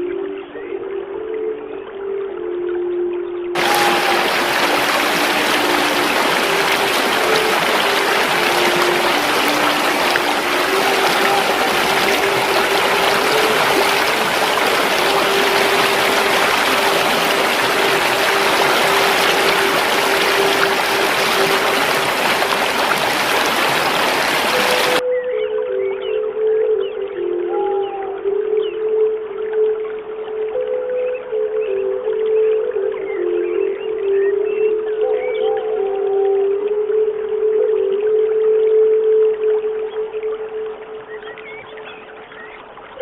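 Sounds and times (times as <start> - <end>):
soft sustained music notes: 0.0 - 43.0
stream water trickling: 0.0 - 43.0.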